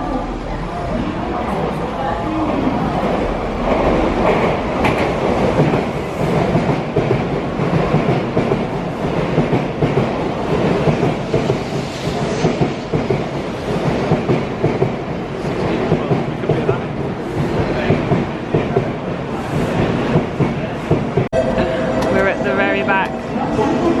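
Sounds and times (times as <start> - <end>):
train running on rails: 0.0 - 24.0.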